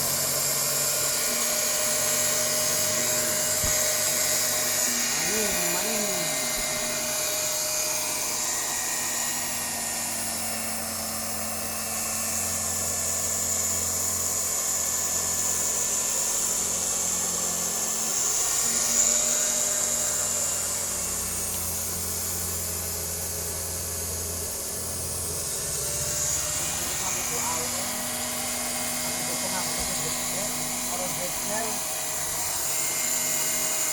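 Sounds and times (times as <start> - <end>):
fabric-cutting machine running: 0.0 - 33.9.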